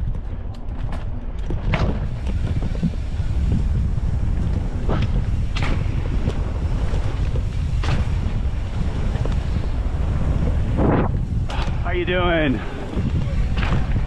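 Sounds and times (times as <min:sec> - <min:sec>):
bike tyre noise: 0:00.0 - 0:14.0
wind rushing over microphone: 0:00.0 - 0:14.0.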